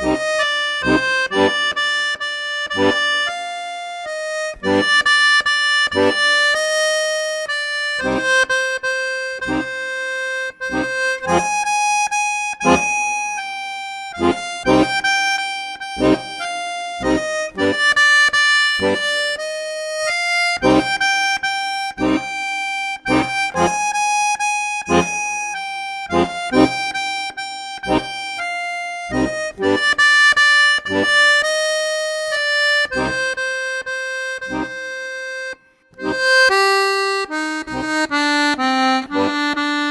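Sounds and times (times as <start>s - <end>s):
accordion playing slow melody: 0.0s - 39.9s.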